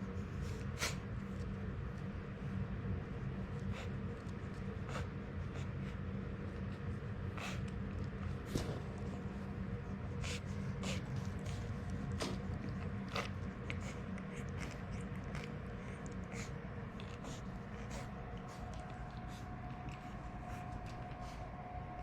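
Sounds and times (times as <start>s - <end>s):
faint steady hum: 0.0s - 22.0s
puppy breathing rumble: 0.0s - 22.0s.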